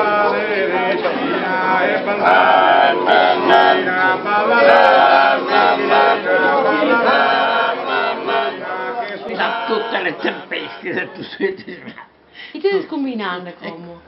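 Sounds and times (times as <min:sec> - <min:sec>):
men singing a cappella: 0:00.0 - 0:11.5.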